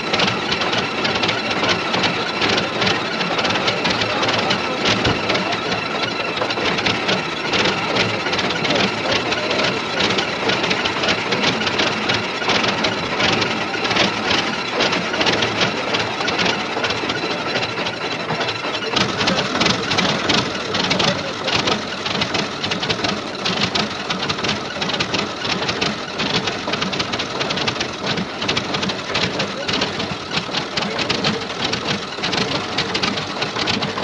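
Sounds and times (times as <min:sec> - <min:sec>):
fast knocking rattle: 0:00.0 - 0:34.0
tractor engine idling roughly: 0:00.0 - 0:34.0.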